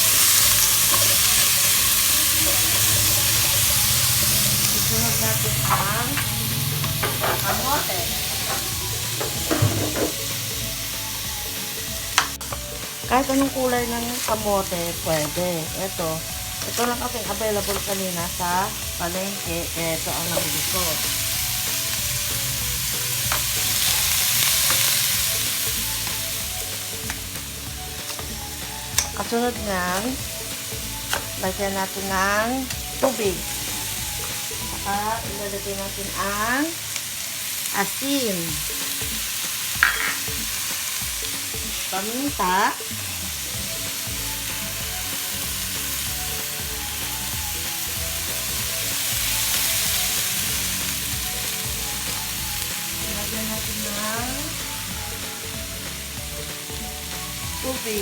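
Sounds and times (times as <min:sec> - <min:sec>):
background music: 0:00.0 - 0:58.0
vegetables sizzling in a pot: 0:00.0 - 0:58.0.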